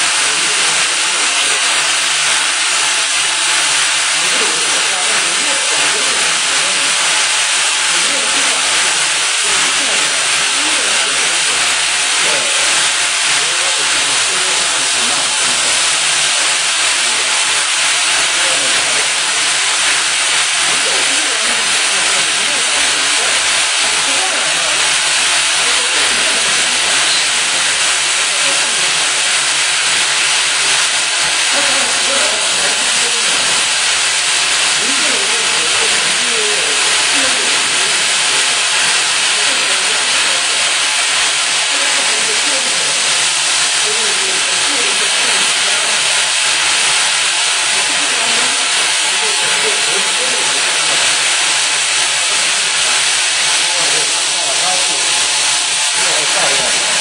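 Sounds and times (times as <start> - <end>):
welding machine hissing: 0.0 - 57.0.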